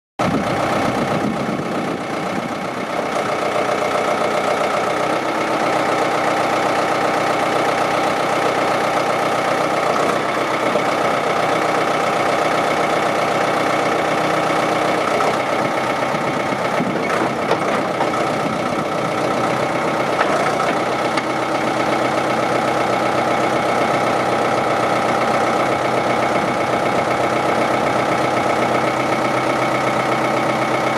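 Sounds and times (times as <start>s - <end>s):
diesel engine idling: 0.2s - 30.9s.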